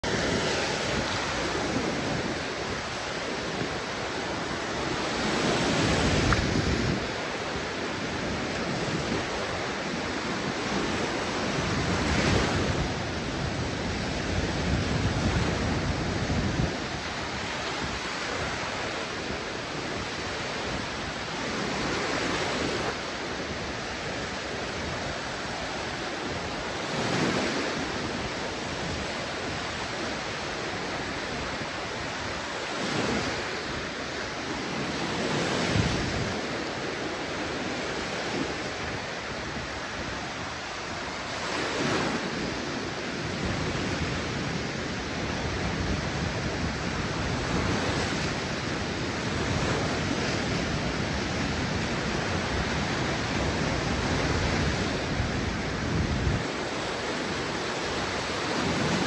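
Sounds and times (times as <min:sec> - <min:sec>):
waves breaking on sandy shore: 0:00.0 - 0:59.0.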